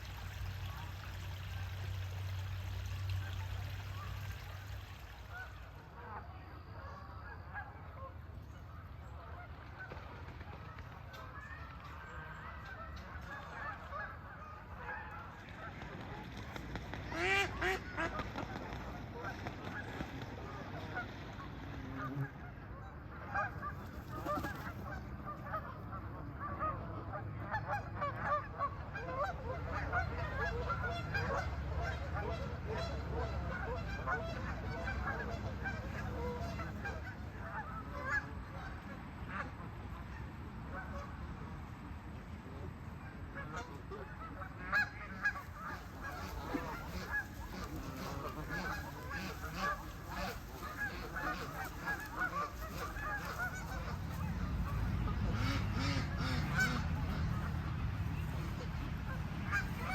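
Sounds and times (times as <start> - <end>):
geese honking: 0.0 - 16.3, 17.1 - 39.6, 43.3 - 59.9.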